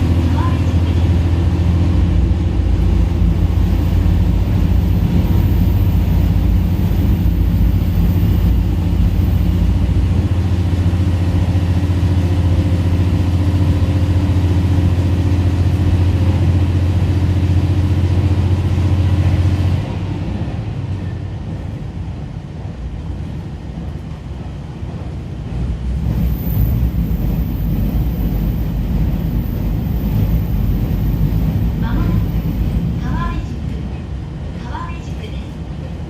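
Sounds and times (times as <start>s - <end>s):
train engine drone: 0.0s - 36.0s
train rolling noise: 0.0s - 36.0s.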